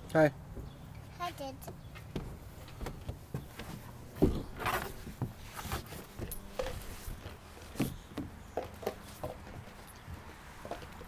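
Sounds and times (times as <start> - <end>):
knocks and rustles: 1.7 - 11.0.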